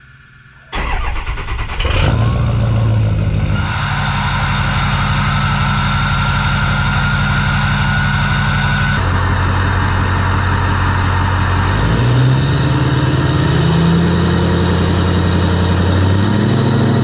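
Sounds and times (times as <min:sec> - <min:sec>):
diesel truck engine idling: 0:00.0 - 0:17.0
high-pitched whine: 0:00.0 - 0:17.0.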